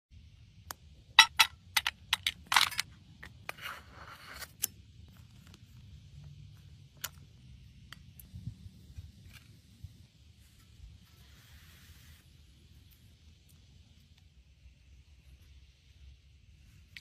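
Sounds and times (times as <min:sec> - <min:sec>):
faint steady hiss: 0:02.9 - 0:17.0.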